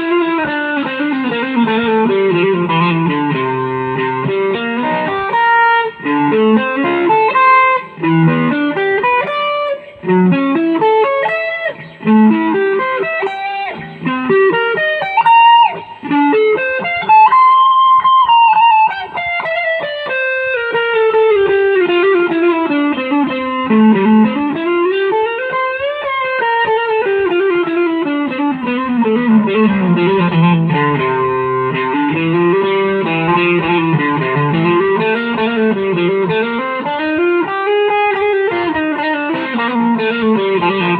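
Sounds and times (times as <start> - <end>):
guitar melody with slides: 0.0 - 40.9.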